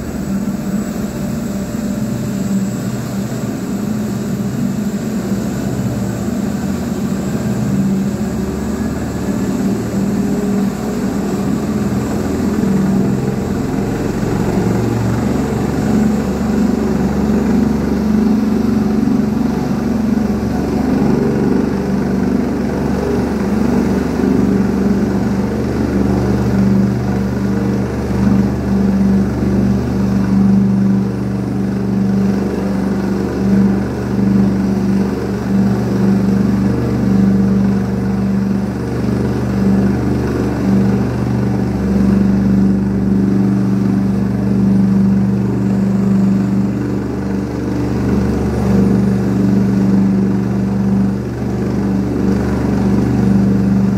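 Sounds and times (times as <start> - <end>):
helicopter rotor and turbine drone: 0.0 - 53.9.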